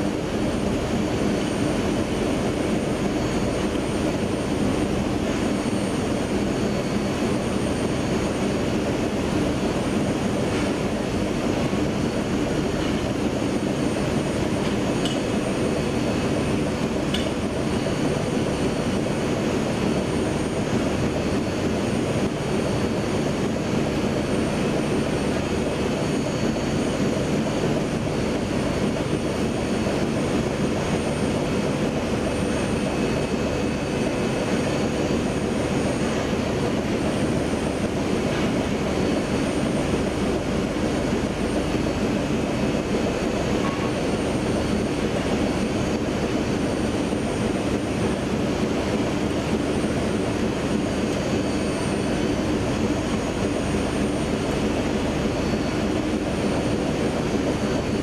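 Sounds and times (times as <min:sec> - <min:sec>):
mechanical drone of production line: 0:00.0 - 0:58.0.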